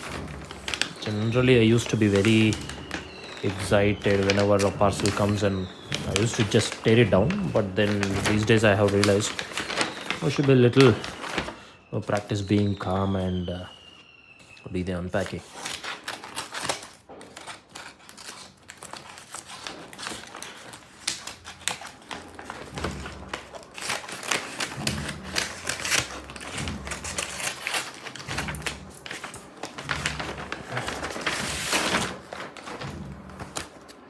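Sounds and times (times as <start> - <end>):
packaging crackling and rustling: 0.0 - 34.0.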